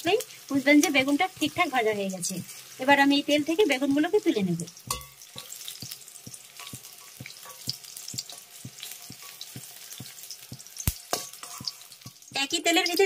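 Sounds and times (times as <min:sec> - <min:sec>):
eggplant sizzling in hot oil: 0:00.0 - 0:13.0.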